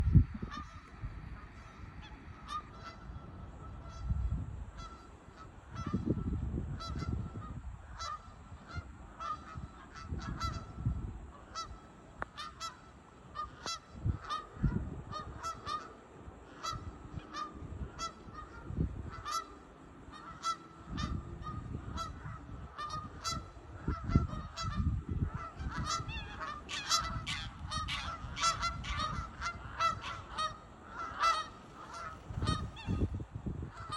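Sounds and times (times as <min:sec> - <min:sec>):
geese honking: 0:00.3 - 0:33.9.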